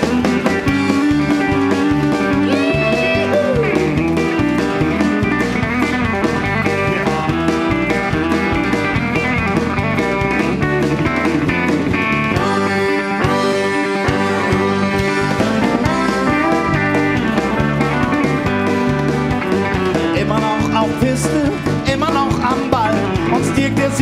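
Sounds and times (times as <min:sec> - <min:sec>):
bass line: 0:00.0 - 0:24.0
electric guitar lead: 0:00.0 - 0:24.0
steady drum beat: 0:00.0 - 0:24.0.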